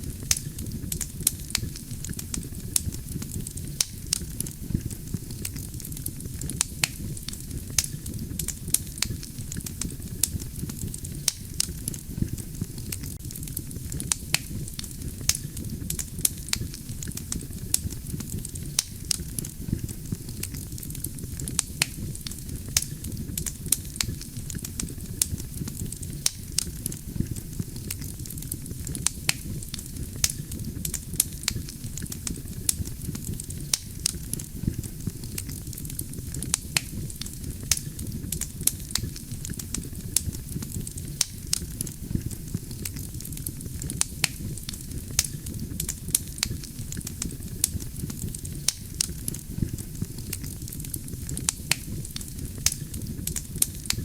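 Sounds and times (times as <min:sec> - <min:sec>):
burning logs crackling: 0:00.0 - 0:54.0
low rumble of flames: 0:00.0 - 0:54.0.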